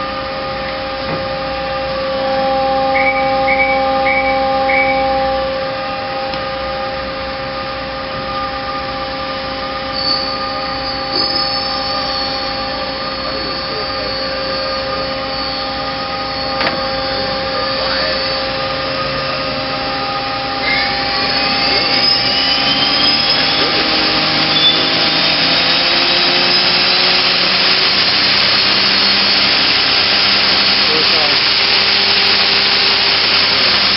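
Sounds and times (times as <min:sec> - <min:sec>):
lathe whining: 0:00.0 - 0:33.9.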